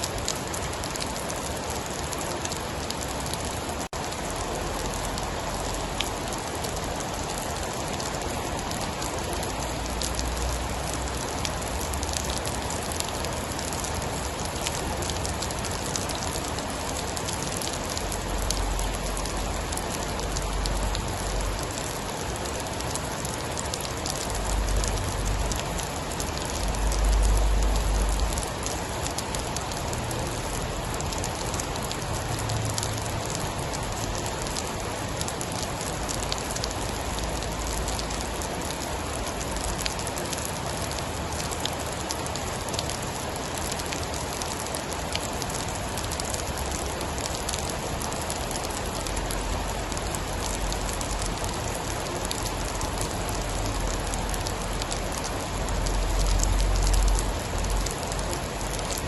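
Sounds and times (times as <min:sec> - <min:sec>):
heavy rain drumming: 0:00.0 - 0:59.0.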